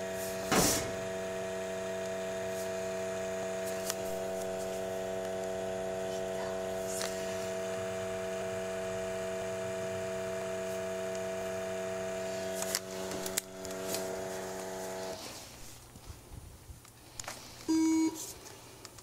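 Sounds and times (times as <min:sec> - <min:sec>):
electric machine hum: 0:00.0 - 0:15.9.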